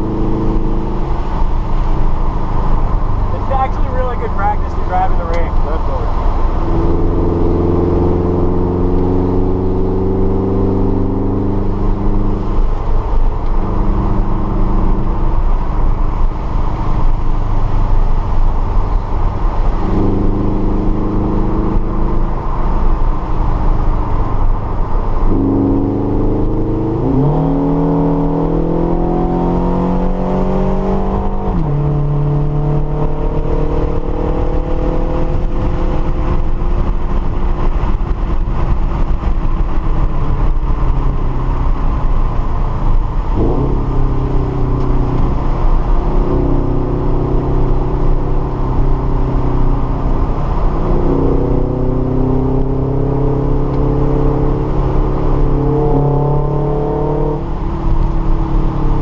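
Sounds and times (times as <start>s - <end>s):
car engine under hard driving: 0.0s - 59.0s
road rumble: 0.0s - 59.0s.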